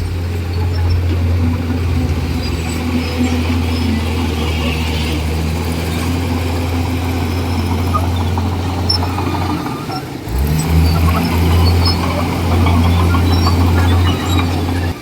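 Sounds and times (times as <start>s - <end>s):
bulldozer diesel engine running: 0.0s - 15.0s
metal clanks: 0.0s - 15.0s.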